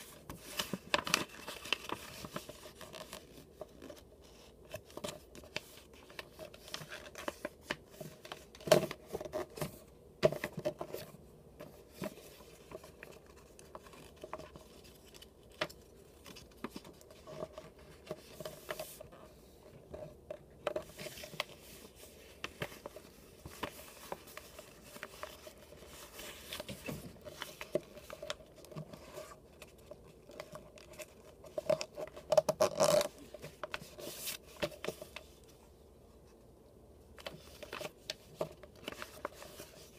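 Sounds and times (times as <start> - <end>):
paper rustling and crinkling: 0.0 - 35.7, 37.2 - 39.9.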